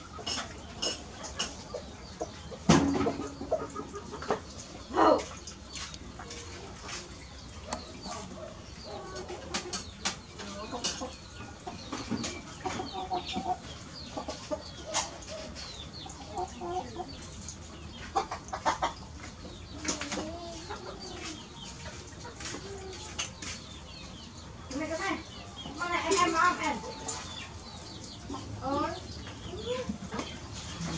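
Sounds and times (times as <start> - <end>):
clucking bird-like calls: 0.0 - 30.9.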